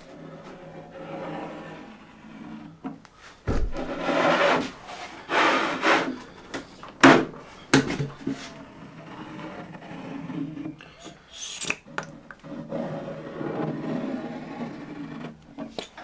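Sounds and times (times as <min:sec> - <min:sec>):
scraping strokes on wood: 0:00.0 - 0:16.0.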